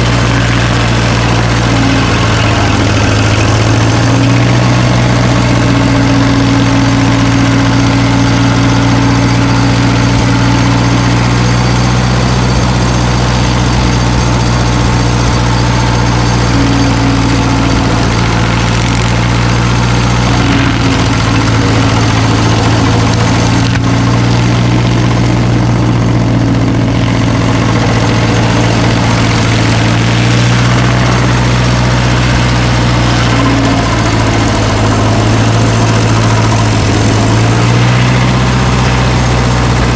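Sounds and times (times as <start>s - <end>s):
heavy machine engine humming: 0.0s - 39.9s.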